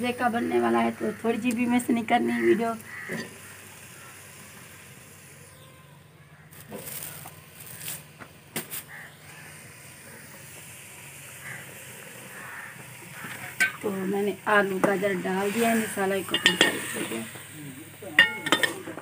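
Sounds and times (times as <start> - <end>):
spices frying in oil: 0.0 - 19.0.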